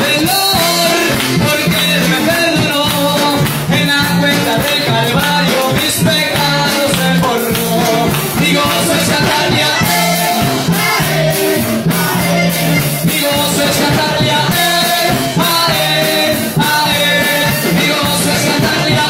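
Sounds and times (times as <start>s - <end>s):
accordion: 0.0s - 19.0s
drum kit: 0.0s - 19.0s
electric and acoustic guitars: 0.0s - 19.0s
man singing into a microphone: 0.0s - 19.0s.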